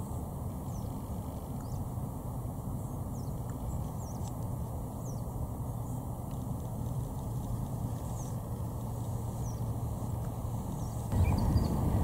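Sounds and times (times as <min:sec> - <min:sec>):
small birds chirping: 0:00.0 - 0:01.9, 0:02.8 - 0:12.0
steady low rumble: 0:00.1 - 0:12.0.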